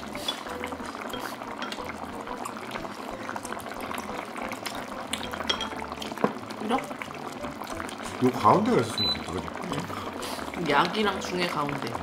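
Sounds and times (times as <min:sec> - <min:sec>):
liquid pouring into a glass: 0:00.0 - 0:10.6
stew bubbling in a pan: 0:00.0 - 0:12.0.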